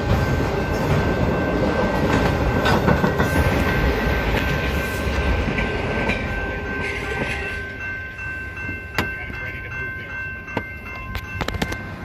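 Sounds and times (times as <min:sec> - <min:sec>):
electronic crossing bell ringing: 0:00.2 - 0:02.6, 0:03.5 - 0:12.0.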